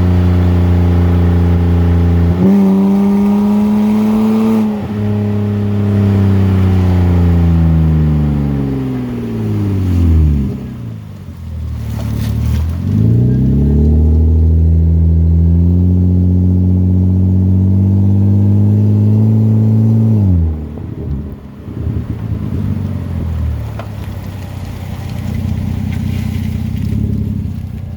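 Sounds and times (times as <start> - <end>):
car engine exhaust revving: 0.0 - 27.9.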